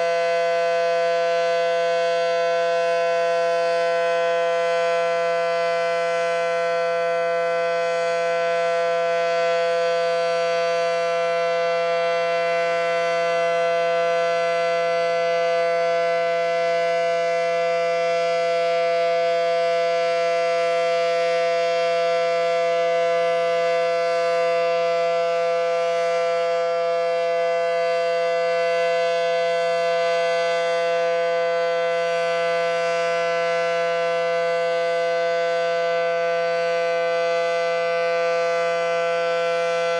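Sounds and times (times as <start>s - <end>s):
tornado siren steady chord: 0.0s - 39.9s.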